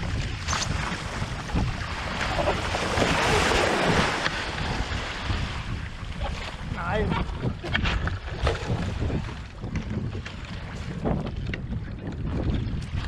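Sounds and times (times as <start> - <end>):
water rushing past hulls: 0.0 - 13.0
wind buffeting microphone: 0.0 - 13.0.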